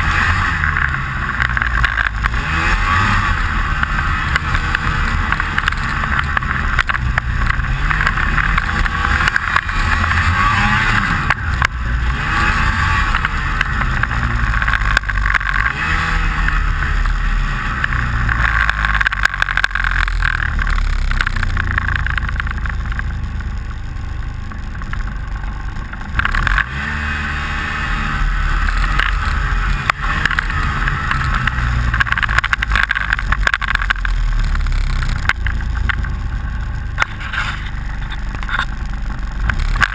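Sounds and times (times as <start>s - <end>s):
snowmobile engine revving: 0.0s - 22.6s, 25.5s - 39.9s
steady rattle: 0.0s - 39.9s.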